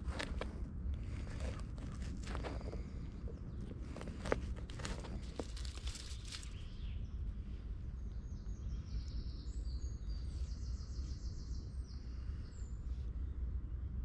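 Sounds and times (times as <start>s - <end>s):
low outdoor rumble: 0.0s - 14.0s
songbirds singing: 0.0s - 14.0s.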